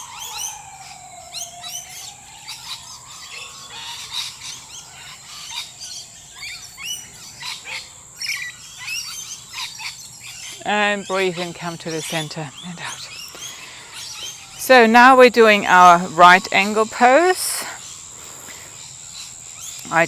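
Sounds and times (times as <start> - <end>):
birds chirping and calling: 0.0 - 20.0
high insect hum: 0.0 - 20.0.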